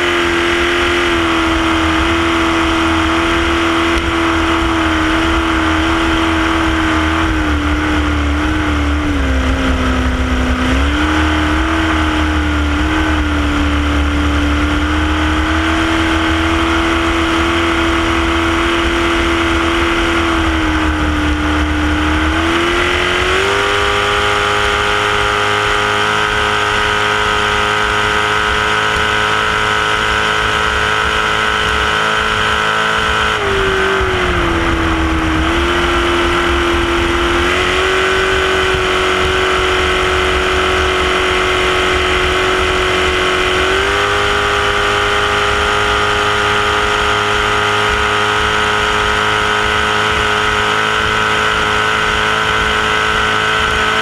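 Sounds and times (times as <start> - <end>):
powerboat engine running hard: 0.0 - 54.0
wind: 0.0 - 54.0.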